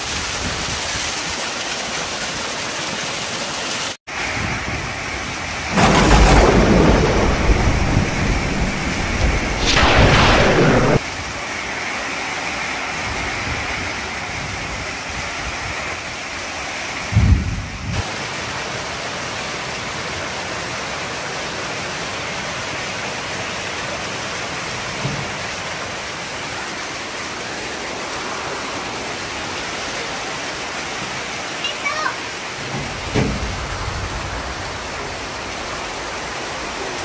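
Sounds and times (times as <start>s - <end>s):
heavy rain pouring onto water: 0.0s - 37.0s.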